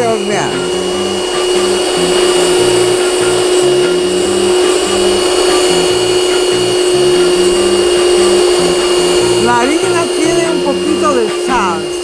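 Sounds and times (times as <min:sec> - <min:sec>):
stand mixer motor humming: 0:00.0 - 0:12.0
thin high whine: 0:00.0 - 0:12.0.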